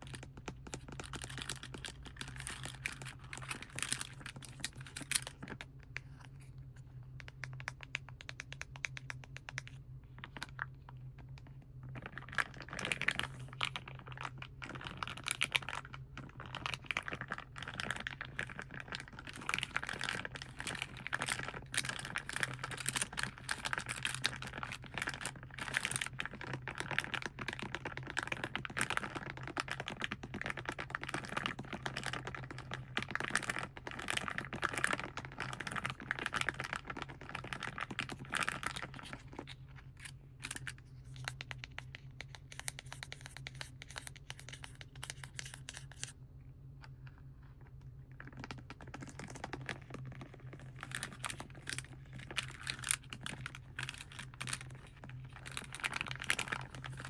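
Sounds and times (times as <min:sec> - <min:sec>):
crinkling and tapping on plastic: 0:00.0 - 0:46.1, 0:46.8 - 0:57.0
steady low hum: 0:00.0 - 0:57.0.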